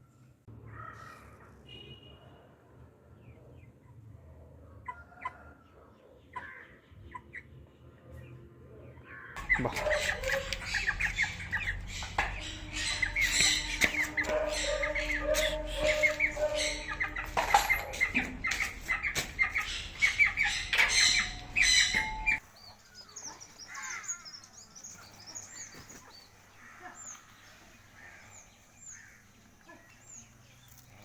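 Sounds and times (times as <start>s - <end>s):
chickens and chicks chirping: 4.8s - 8.3s, 8.9s - 31.0s.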